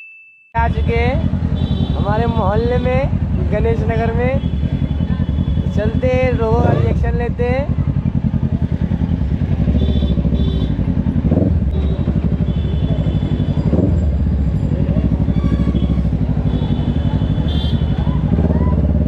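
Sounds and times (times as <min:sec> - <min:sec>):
high-pitched street traffic tones: 0:00.0 - 0:19.0
motorcycle engine running: 0:00.6 - 0:19.0.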